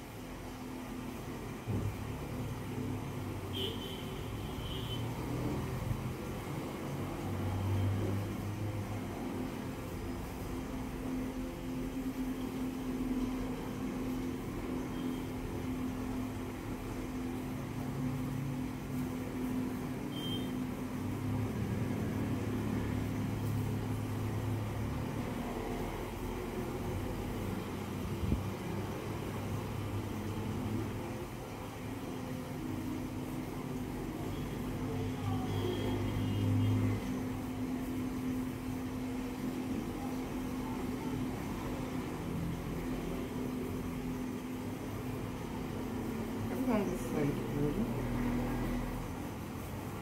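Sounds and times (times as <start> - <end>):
low mechanical motor hum: 0.0 - 50.0
room noise: 0.0 - 50.0.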